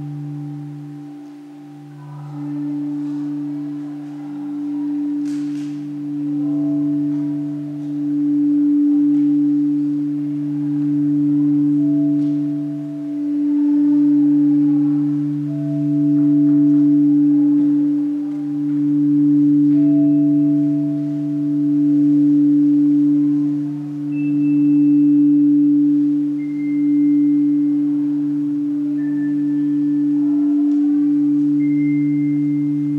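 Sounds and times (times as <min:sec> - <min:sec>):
singing bowl drone: 0:00.0 - 0:32.9.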